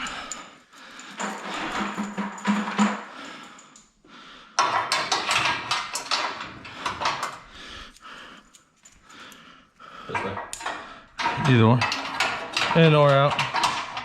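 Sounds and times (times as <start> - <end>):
scaffolding parts clinking: 0.0 - 3.9, 4.6 - 9.1, 10.0 - 14.0.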